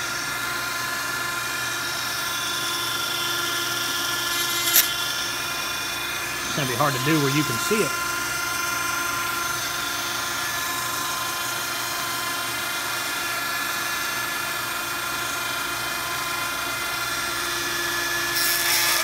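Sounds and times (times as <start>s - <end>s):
rotary tool high whine: 0.0s - 19.0s.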